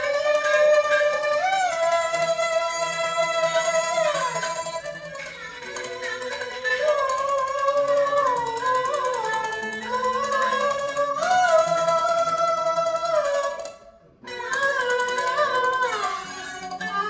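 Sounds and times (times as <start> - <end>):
bowed fiddle: 0.0 - 17.0
plucked lute: 0.0 - 17.0.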